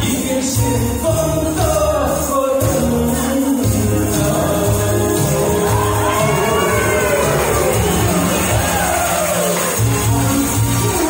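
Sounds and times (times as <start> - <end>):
man singing into a microphone: 0.0 - 9.0
karaoke backing track with beat: 0.0 - 11.0.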